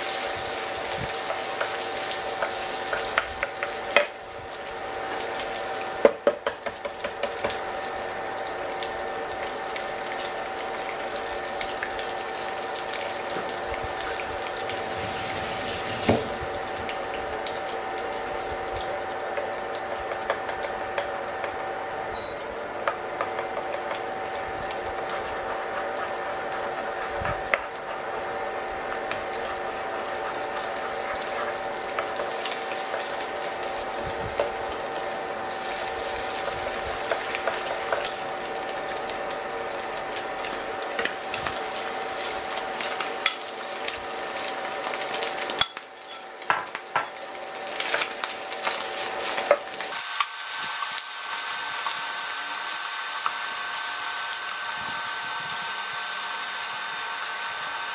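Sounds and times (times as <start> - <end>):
food sizzling in frying pan: 0.0 - 57.9.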